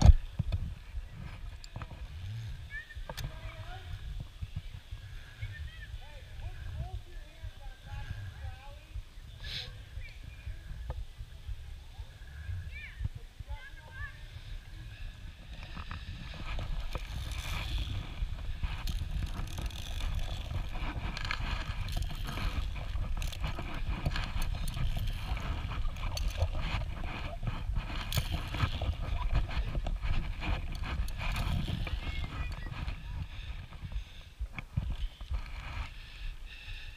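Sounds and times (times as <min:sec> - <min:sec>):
camera movement rumble: 0:00.0 - 0:36.4.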